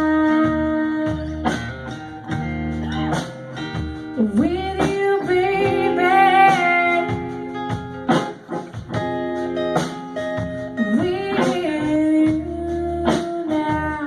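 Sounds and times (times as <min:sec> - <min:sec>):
blues guitar: 0:00.0 - 0:14.0.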